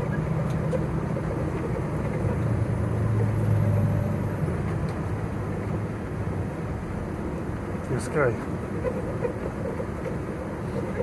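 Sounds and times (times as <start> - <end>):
road noise: 0.0 - 11.0
truck engine droning: 0.0 - 11.0.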